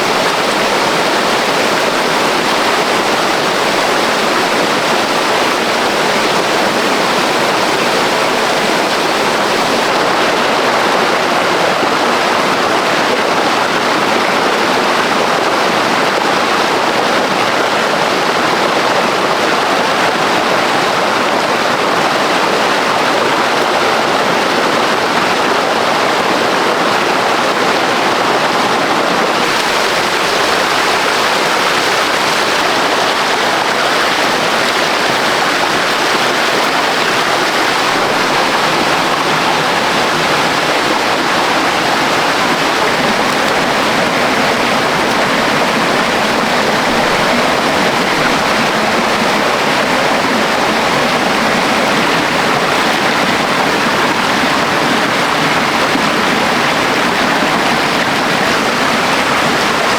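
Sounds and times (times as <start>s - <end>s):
rushing water of rapids: 0.0s - 59.9s.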